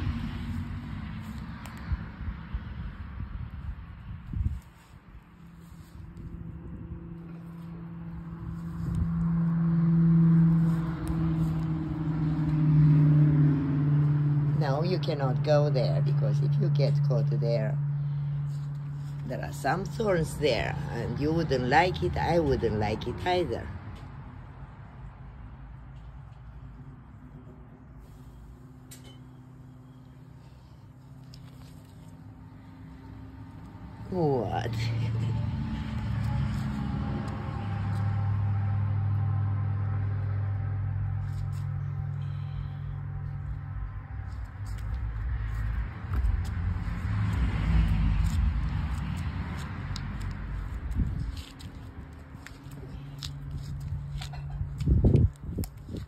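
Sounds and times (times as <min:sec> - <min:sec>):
engine humming: 0:03.9 - 0:55.8.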